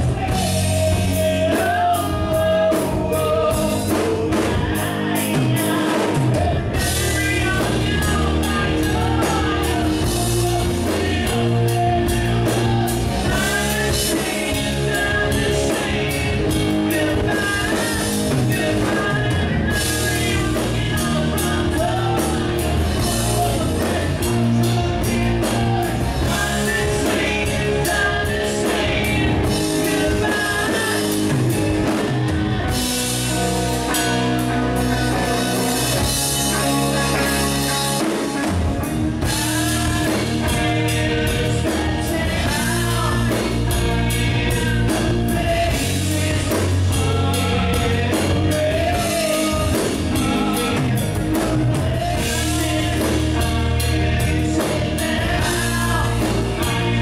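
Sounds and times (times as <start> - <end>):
bass guitar: 0.0 - 57.0
drum kit: 0.0 - 57.0
electric guitars: 0.0 - 57.0
man singing lead vocal: 0.0 - 57.0.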